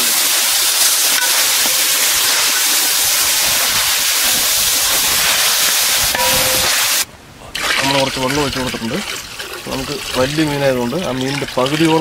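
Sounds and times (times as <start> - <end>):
water boiling hard with sizzling: 0.0 - 12.0.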